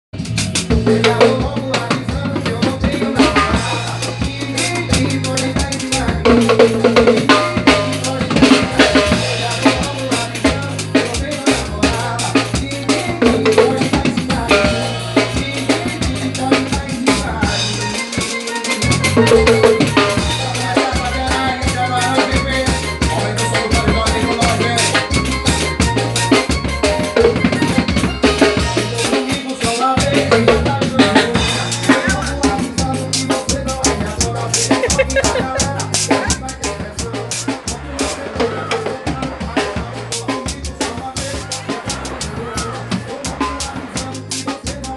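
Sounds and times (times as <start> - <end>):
bass line: 0.1 - 44.9
drum kit beat: 0.1 - 44.9.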